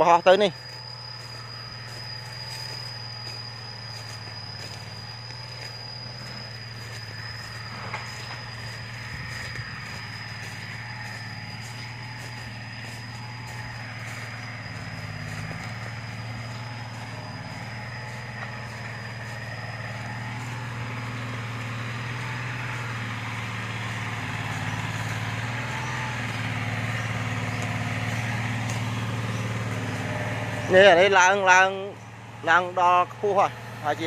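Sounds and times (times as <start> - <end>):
faint high whine: 0.0 - 34.0
motor humming: 0.0 - 34.0.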